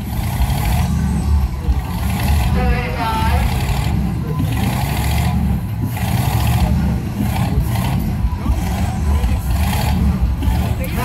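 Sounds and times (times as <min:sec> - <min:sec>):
tractor engine rumbling: 0:00.0 - 0:11.0.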